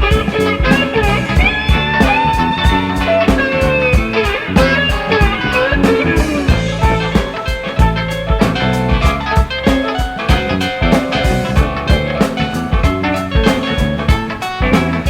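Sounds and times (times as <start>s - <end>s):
bass guitar: 0.0s - 15.0s
lead guitar bending notes: 0.0s - 15.0s
steady drum beat: 0.0s - 15.0s.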